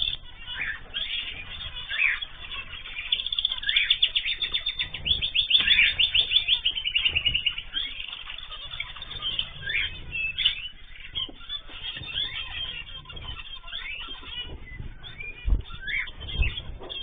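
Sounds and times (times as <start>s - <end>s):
cage birds chirping and singing: 0.0s - 17.0s
fast bird trill: 0.0s - 17.0s.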